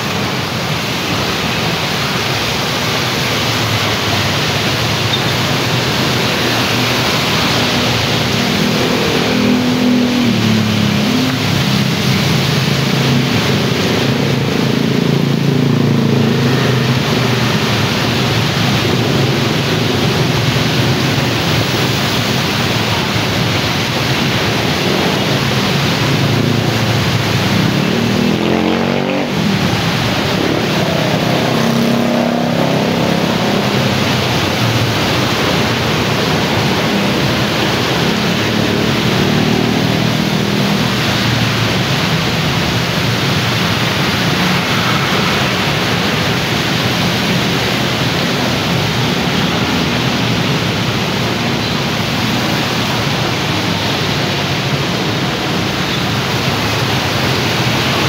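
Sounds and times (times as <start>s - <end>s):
motorbikes and cars passing: 0.0s - 58.0s
tyres hissing on wet asphalt: 0.0s - 58.0s.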